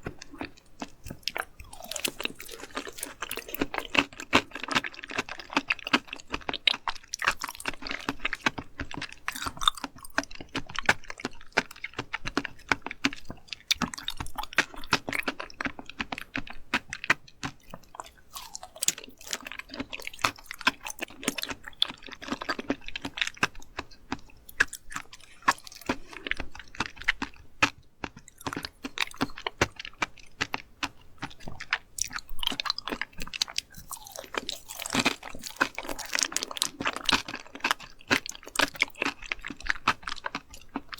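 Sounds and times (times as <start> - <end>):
chewing with crunches and wet clicks: 0.0 - 40.9.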